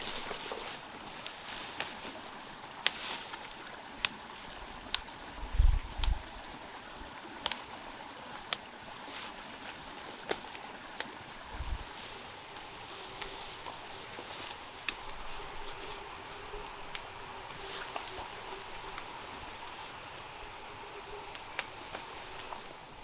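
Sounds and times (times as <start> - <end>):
insects shrilling: 0.0 - 23.0.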